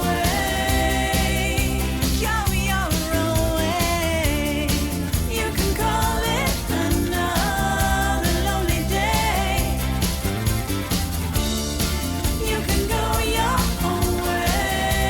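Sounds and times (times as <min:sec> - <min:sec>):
pop song with vocals: 0:00.0 - 0:15.0.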